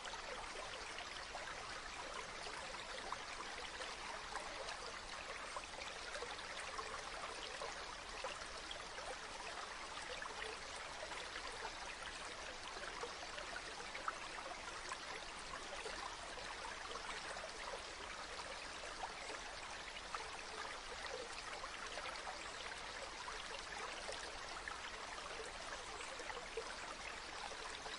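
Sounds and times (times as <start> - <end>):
small splashes and trickles: 0.0 - 27.9
stream water running: 0.0 - 27.9.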